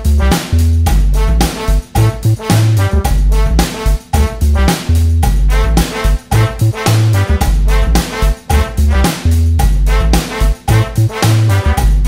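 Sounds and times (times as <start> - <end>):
background music with beat: 0.0 - 12.0
bass line: 0.0 - 12.0.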